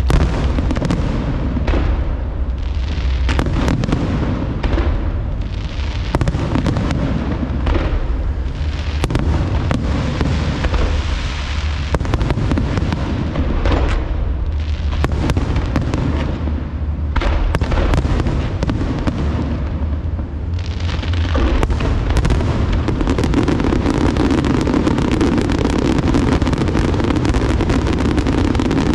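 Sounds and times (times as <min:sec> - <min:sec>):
fireworks booming: 0:00.0 - 0:28.9
fireworks crackling: 0:00.0 - 0:28.9
fireworks sharp bangs: 0:00.0 - 0:28.9.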